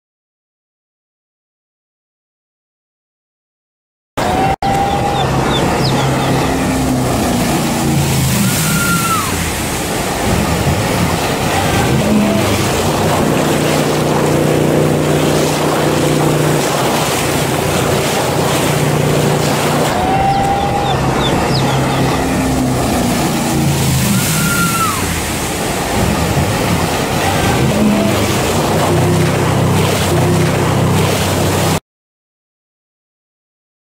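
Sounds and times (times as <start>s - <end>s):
jet boat engine: 4.2s - 31.8s
river water rushing: 4.2s - 31.8s.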